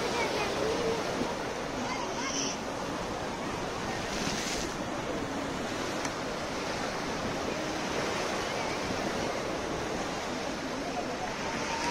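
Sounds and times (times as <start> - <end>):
sea surf breaking on rocks: 0.0 - 11.9.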